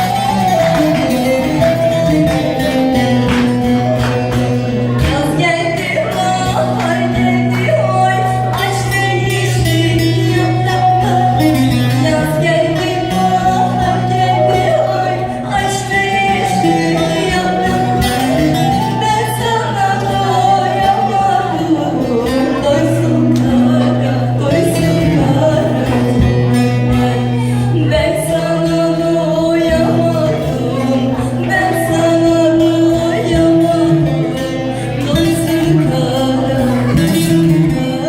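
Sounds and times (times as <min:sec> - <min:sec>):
plucked strings: 0:00.0 - 0:38.0
woman singing: 0:00.0 - 0:38.0.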